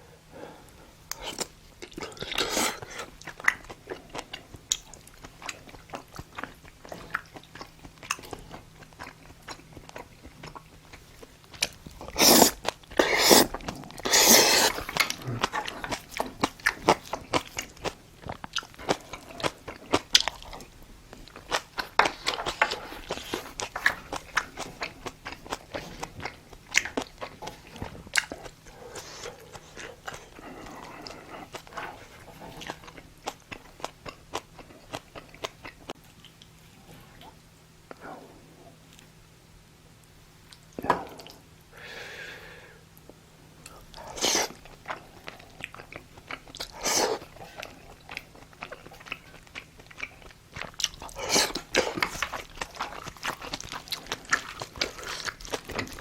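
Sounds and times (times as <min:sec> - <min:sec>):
wet chewing sounds: 0:01.1 - 0:38.0, 0:43.0 - 0:56.0.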